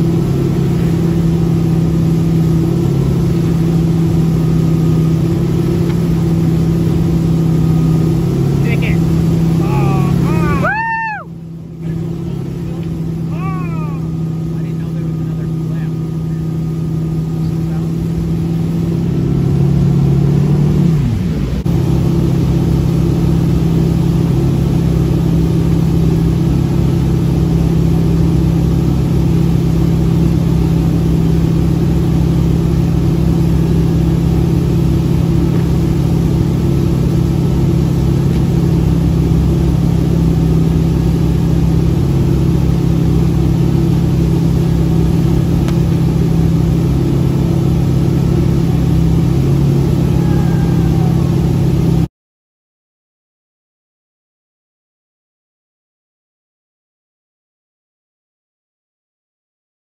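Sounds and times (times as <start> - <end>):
rush of wake and spray: 0.0 - 11.0, 11.6 - 52.1
boat engine droning: 0.0 - 52.1.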